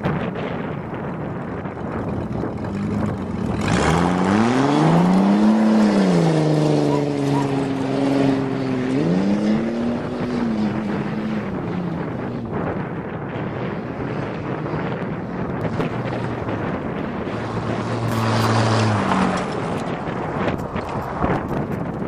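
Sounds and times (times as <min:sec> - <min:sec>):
wind and road noise: 0:00.0 - 0:22.0
car engine pulling: 0:00.1 - 0:22.0.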